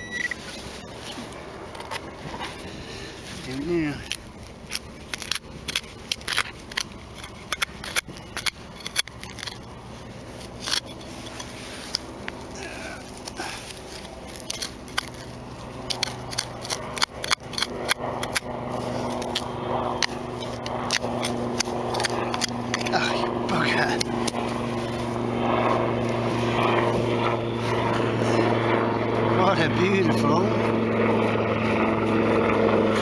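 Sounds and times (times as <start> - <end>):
digging tool scraping soil: 0.0 - 28.5
steady low hum: 0.0 - 33.0.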